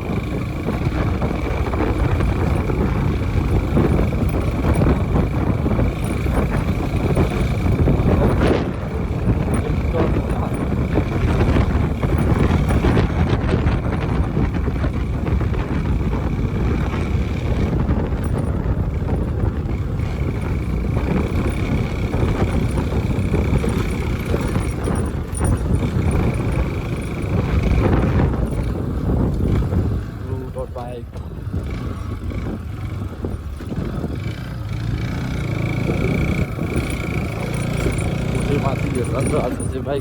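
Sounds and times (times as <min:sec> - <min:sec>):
engine road and wind rumble: 0:00.0 - 0:40.0.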